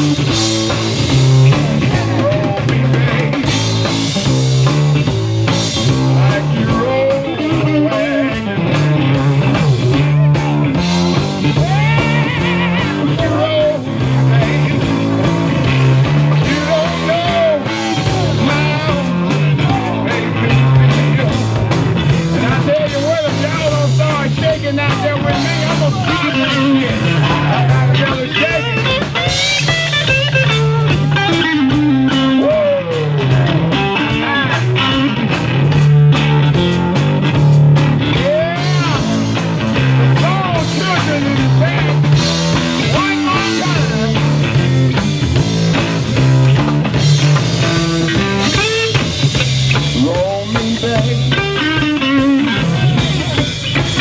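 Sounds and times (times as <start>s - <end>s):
bass guitar: 0.0s - 54.0s
drum kit: 0.0s - 54.0s
electric guitar lead: 0.0s - 54.0s.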